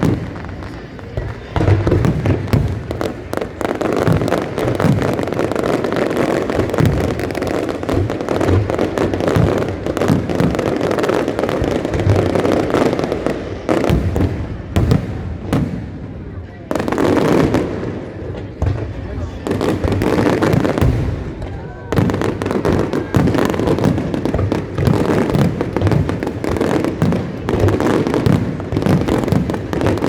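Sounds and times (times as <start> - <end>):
deep fireworks booms: 0.0 - 30.0
fireworks bursts and crackling: 0.0 - 30.0.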